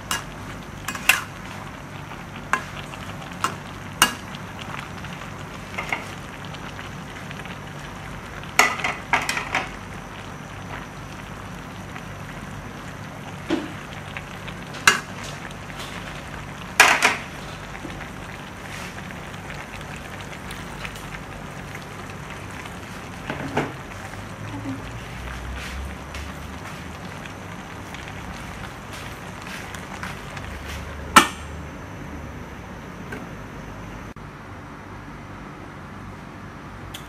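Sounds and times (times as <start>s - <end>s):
food sizzling in a wok: 0.0s - 31.9s.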